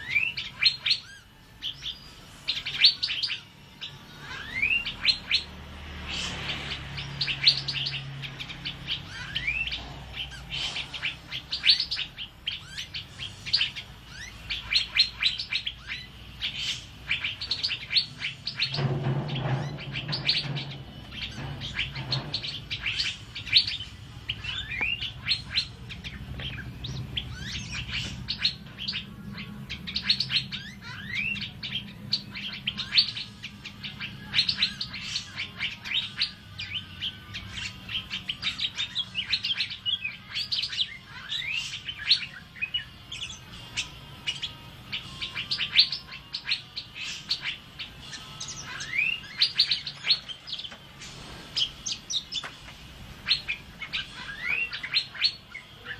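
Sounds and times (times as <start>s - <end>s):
bird chirping and whistling: 0.0s - 55.9s.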